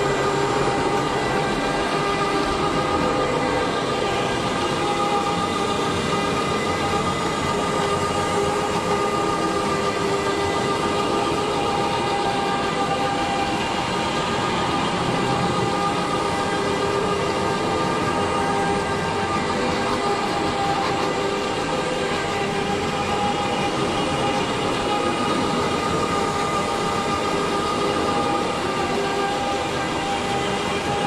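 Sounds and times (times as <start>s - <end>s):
high-pitched whine: 0.0s - 31.0s.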